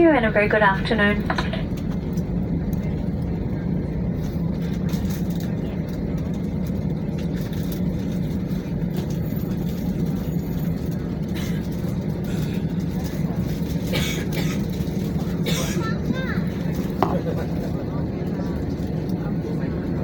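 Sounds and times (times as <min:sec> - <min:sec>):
aircraft cabin rumble: 0:00.0 - 0:20.0
idling jet engines hum: 0:00.0 - 0:20.0.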